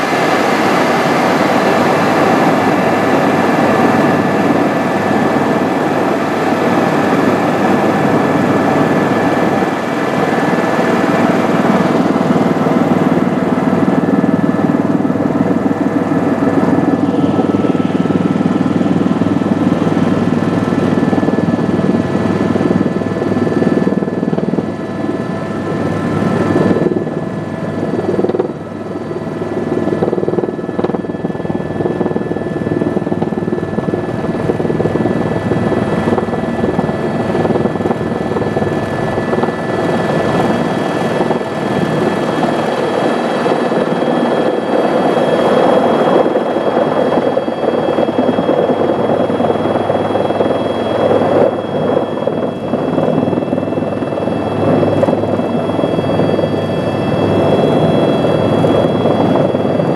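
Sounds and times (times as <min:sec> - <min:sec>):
helicopter rotor rumble: 0:00.0 - 0:59.9
helicopter turbine whine: 0:00.0 - 0:59.9.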